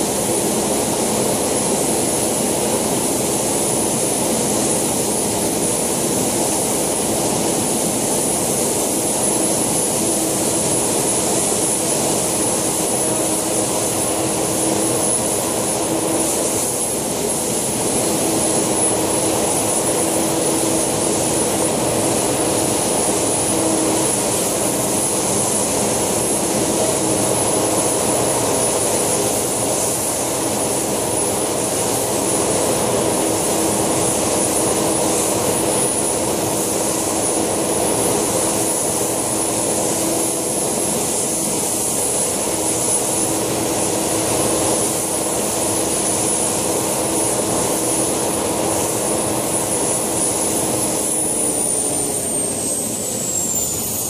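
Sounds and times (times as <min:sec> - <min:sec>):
model turbine high whine: 0:00.0 - 0:54.0.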